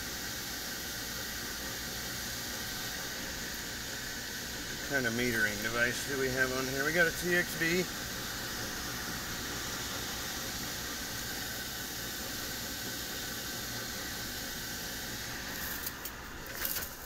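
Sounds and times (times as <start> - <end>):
blower air rushing: 0.0 - 17.0.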